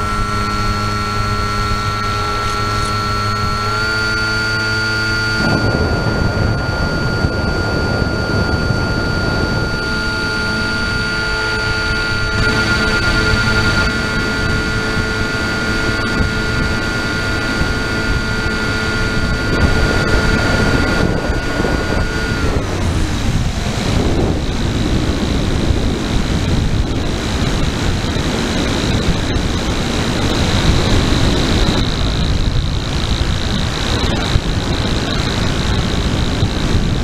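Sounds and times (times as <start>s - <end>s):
model aircraft motor whine: 0.0s - 37.0s
wind rushing over microphone: 0.0s - 37.0s.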